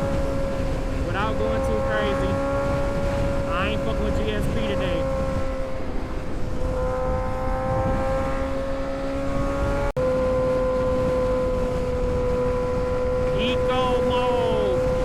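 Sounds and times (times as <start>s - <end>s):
low rumble of wind: 0.0s - 15.0s
motorcycle engine running: 0.0s - 15.0s.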